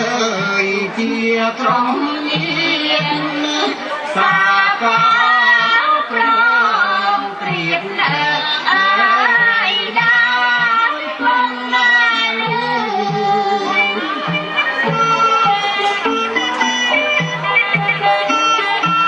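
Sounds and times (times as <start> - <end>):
traditional music with sliding melody: 0.0 - 19.0.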